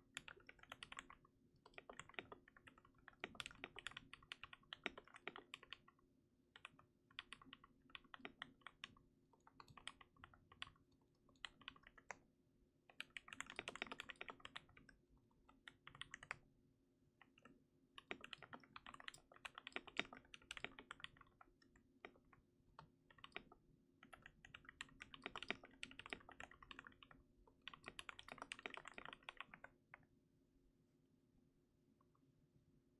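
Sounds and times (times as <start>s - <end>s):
mechanical keyboard typing: 0.0s - 6.0s, 6.6s - 12.2s, 12.9s - 16.4s, 17.2s - 22.4s, 23.0s - 29.8s.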